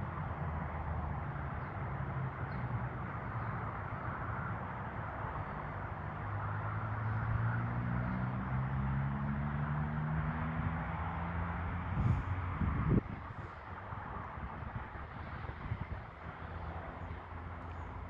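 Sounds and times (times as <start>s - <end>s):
motor vehicle engine hum: 0.0s - 18.0s
outdoor rushing noise: 0.0s - 18.0s.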